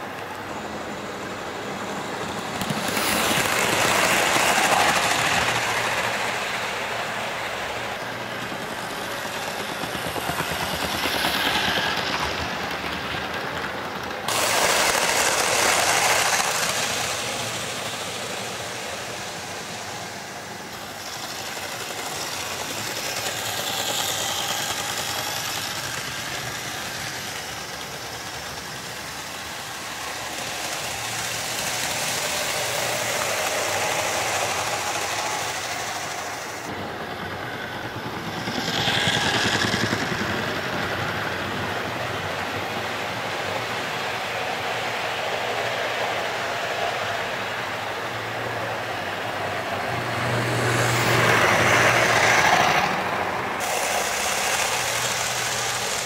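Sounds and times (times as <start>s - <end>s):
model train motors whirring: 0.0s - 56.0s
wheels rolling on track: 0.0s - 56.0s.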